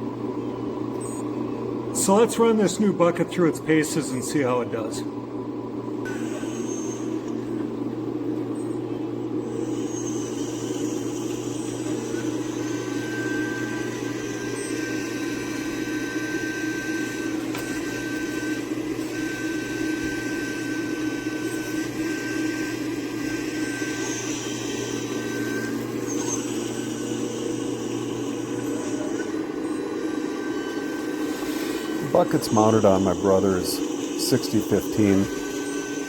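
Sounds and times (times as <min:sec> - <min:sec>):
hydraulic pump whine and hum: 0:00.0 - 0:36.0.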